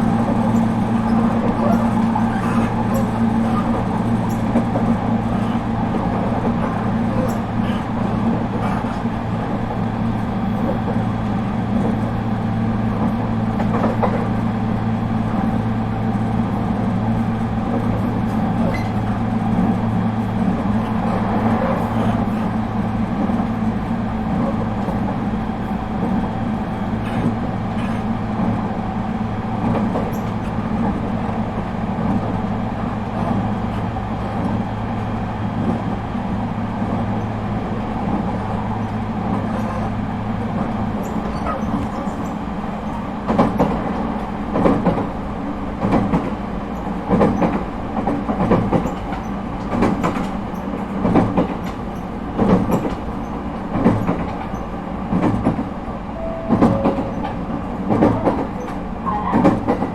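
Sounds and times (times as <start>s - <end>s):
electric train interior hum: 0.0s - 59.9s.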